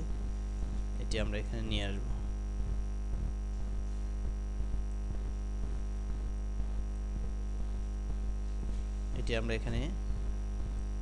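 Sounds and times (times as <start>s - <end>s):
electrical mains hum: 0.0s - 11.0s
thin high whine: 0.0s - 11.0s.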